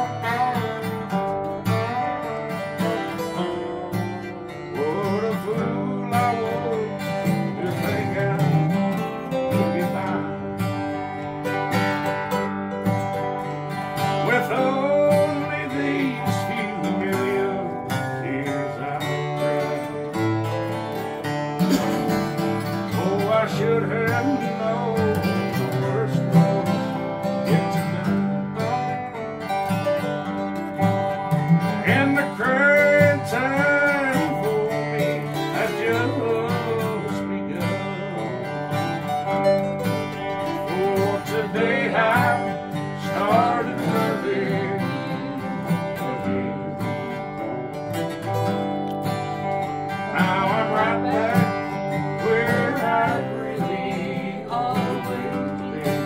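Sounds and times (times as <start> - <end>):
acoustic guitars strumming: 0.0 - 56.0
lead guitar with bent notes: 0.0 - 56.0.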